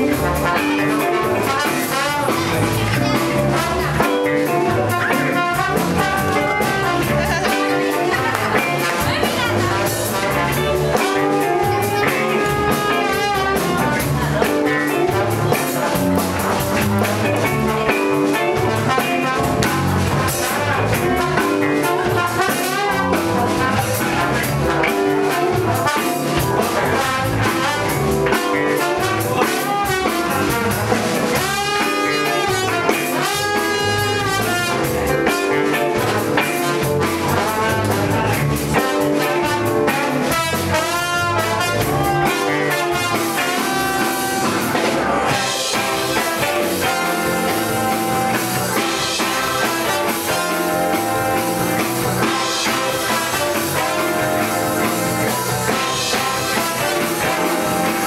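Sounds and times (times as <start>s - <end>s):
jazz-funk band music: 0.0s - 58.0s.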